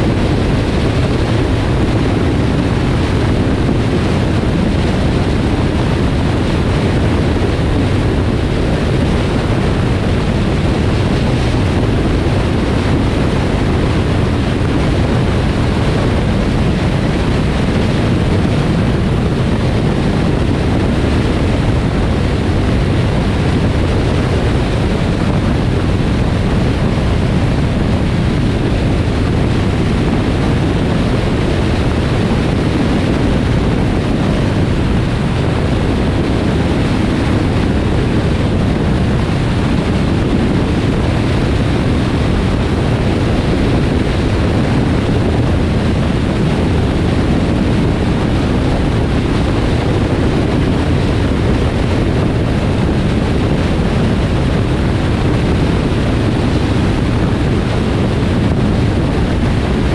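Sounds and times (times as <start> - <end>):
tyre and wind noise: 0.0 - 59.9.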